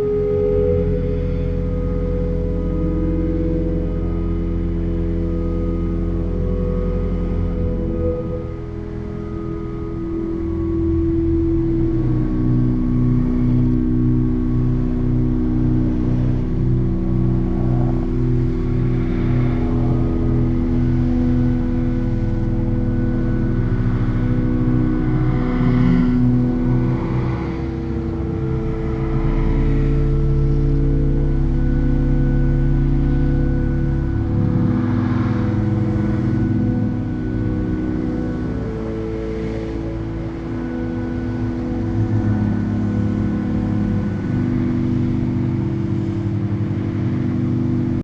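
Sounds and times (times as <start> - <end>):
pipe organ sustained chords: 0.0 - 48.0.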